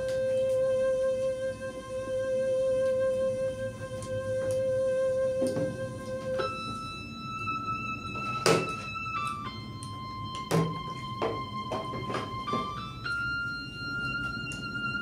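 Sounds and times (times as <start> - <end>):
slow background music: 0.0 - 15.0.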